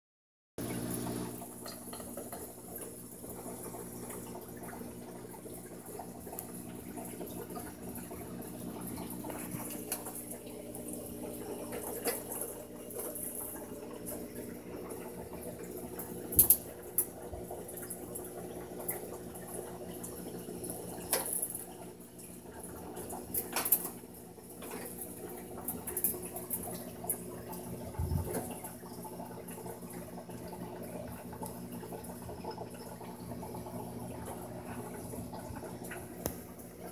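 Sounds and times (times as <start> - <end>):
low mechanical hum: 0.6 - 36.9
water trickling: 0.6 - 36.9.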